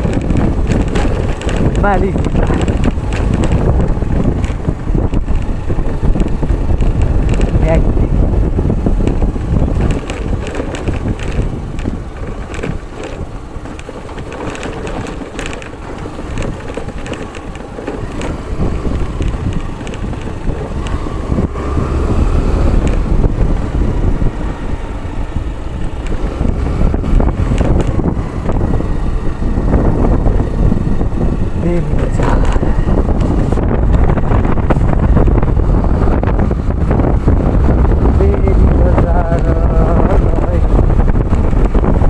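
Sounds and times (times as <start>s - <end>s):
stones crunching under tyres: 0.0s - 42.0s
wind rumble on microphone: 0.0s - 42.0s.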